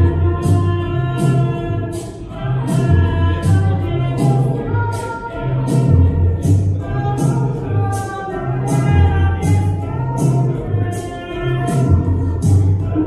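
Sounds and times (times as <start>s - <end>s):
electronic music with looped beat: 0.0s - 13.0s
woman singing into microphone: 0.0s - 13.0s.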